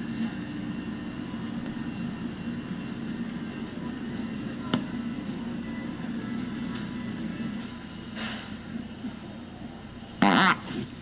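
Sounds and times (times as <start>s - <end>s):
store background hum: 0.0s - 11.0s.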